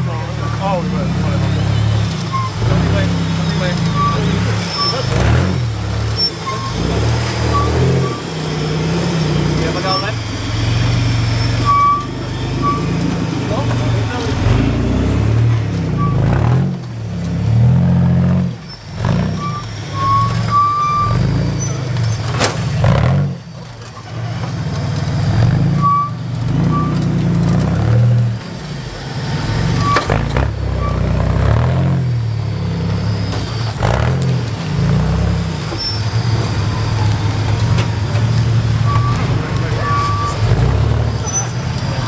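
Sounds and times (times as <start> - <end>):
buggy engine revving: 0.0 - 42.0.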